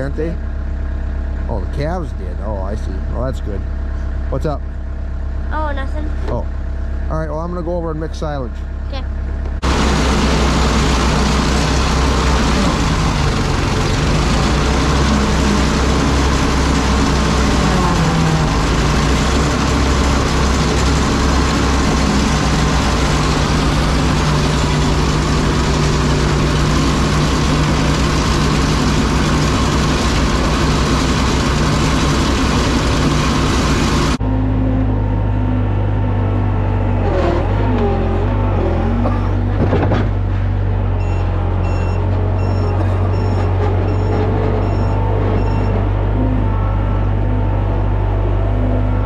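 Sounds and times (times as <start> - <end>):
farm machinery running: 0.0 - 5.0, 6.2 - 49.0
machine hum: 0.0 - 49.0.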